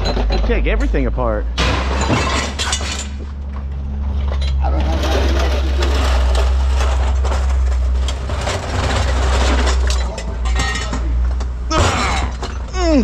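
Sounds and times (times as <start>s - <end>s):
scrap metal clanking and scraping: 0.0s - 12.8s
large engine humming: 0.0s - 13.0s.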